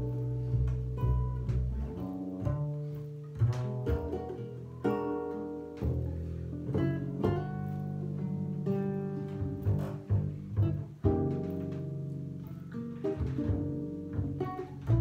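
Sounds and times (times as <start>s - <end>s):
acoustic guitar plucking: 0.0s - 15.0s
double bass pizzicato: 0.0s - 15.0s.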